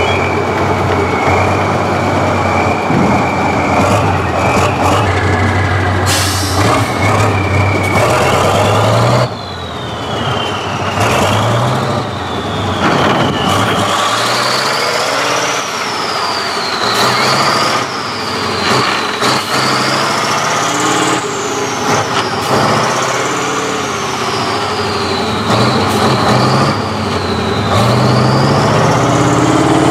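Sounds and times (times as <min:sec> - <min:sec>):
tractor engine revving: 0:00.0 - 0:29.9.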